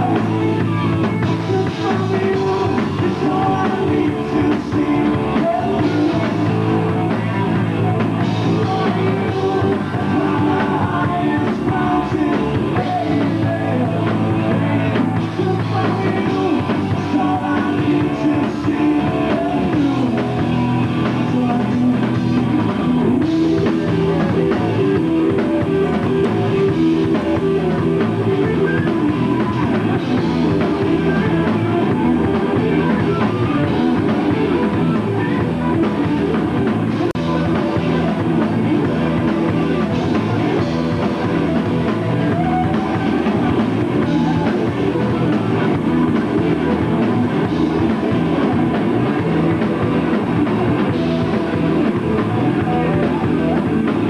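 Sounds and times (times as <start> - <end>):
bass guitar: 0.0 - 54.0
drum kit: 0.0 - 54.0
electric guitars: 0.0 - 54.0
person singing lead vocal: 0.0 - 54.0.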